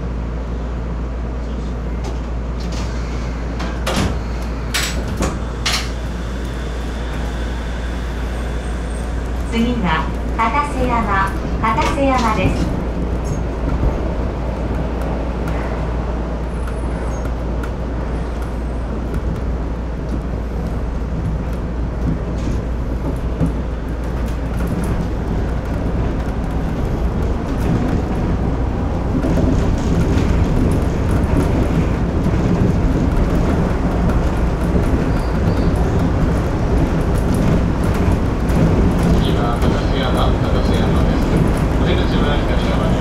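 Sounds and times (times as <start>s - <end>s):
monorail running gear rumble: 0.0s - 43.0s.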